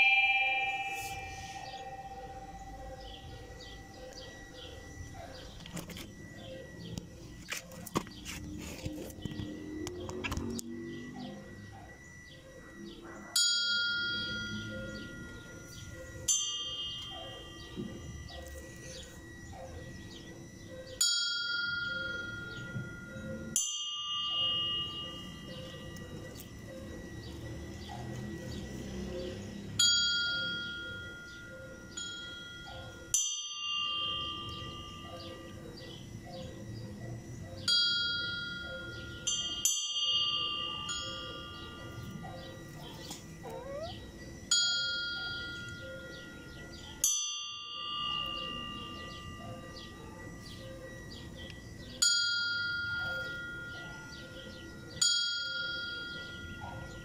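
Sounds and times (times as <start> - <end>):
church bells tolling: 0.0 - 7.1, 11.2 - 36.7, 37.7 - 51.4.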